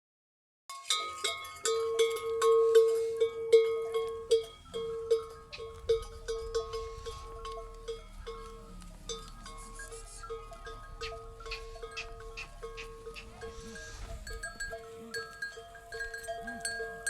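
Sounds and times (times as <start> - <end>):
livestock neck bells clanking: 0.7 - 17.0.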